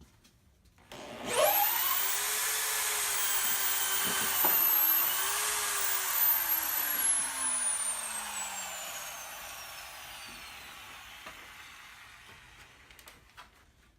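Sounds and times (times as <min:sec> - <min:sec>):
power drill whining: 0:00.9 - 0:13.3.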